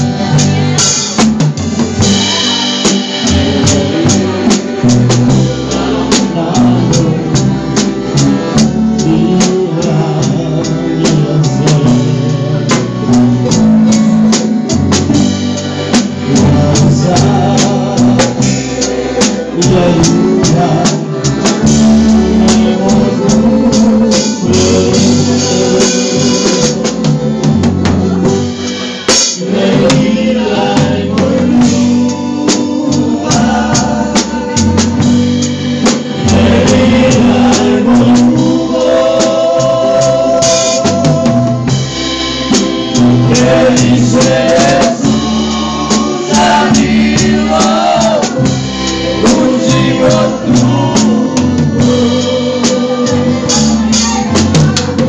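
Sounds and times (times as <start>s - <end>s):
live band music: 0.0s - 55.0s
person singing: 2.0s - 13.7s, 16.1s - 55.0s.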